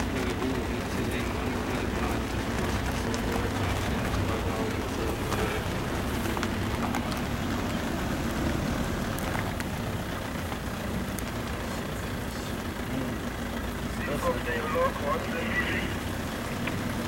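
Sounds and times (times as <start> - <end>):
heavy rain falling: 0.0 - 17.0
vehicle engine running: 0.0 - 17.0.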